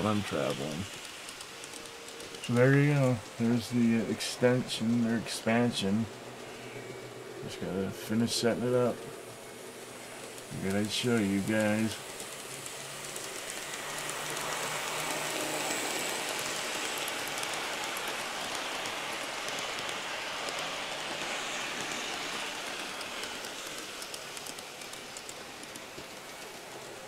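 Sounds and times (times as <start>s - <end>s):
faint motor hum: 0.0s - 27.0s
model train wheels rolling on rail: 0.0s - 27.0s.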